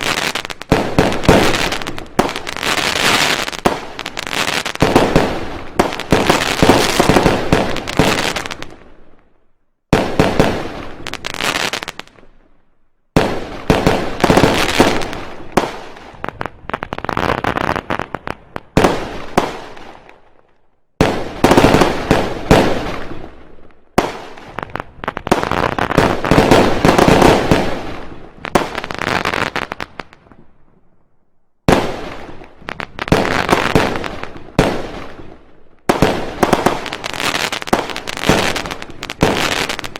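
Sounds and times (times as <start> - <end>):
fireworks banging and crackling: 0.0 - 9.2, 9.9 - 12.4, 13.1 - 30.5, 31.7 - 39.9.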